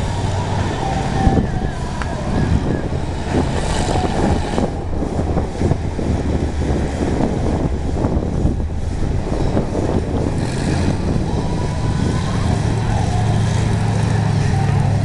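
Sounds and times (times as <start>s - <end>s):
monster truck engine droning: 0.0s - 15.0s.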